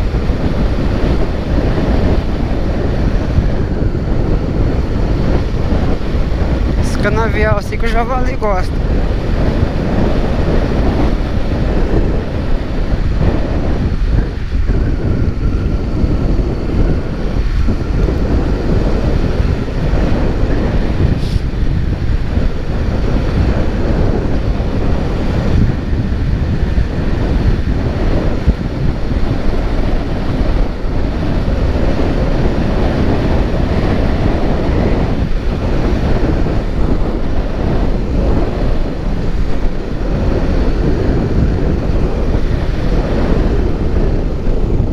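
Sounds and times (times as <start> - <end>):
vehicle running noise: 0.0 - 44.9
wind rumble on microphone: 0.0 - 44.9.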